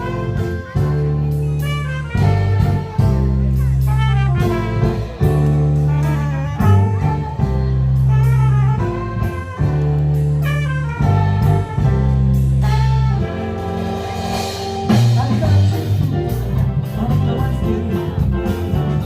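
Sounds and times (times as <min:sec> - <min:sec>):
held melody notes: 0:00.0 - 0:19.0
steady bass line: 0:00.0 - 0:19.0.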